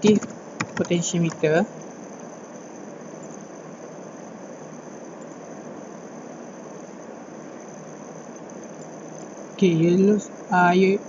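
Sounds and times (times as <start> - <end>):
faint high-pitched whine: 0.0 - 11.0
steady background hiss: 0.0 - 11.0.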